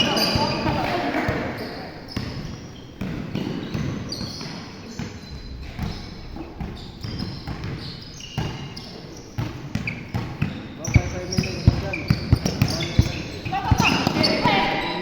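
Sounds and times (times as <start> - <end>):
basketball bouncing on court: 0.0 - 14.6.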